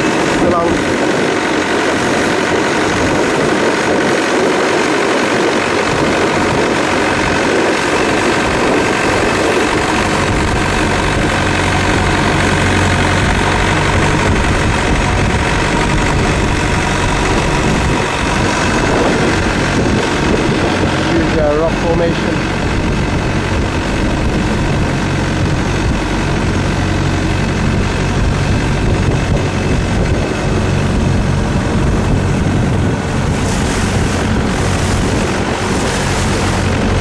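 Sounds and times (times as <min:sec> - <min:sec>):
boat engine running: 0:00.0 - 0:37.0
water rushing: 0:00.0 - 0:37.0.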